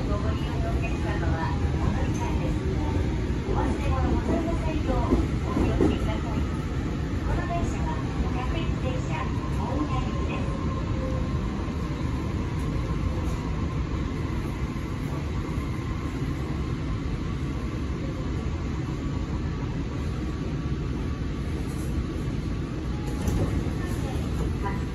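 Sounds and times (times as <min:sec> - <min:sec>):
train running rumble from inside: 0:00.0 - 0:24.9.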